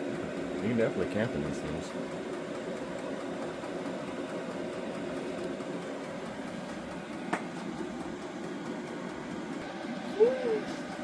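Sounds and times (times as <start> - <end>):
diesel heater humming: 0.0 - 11.0.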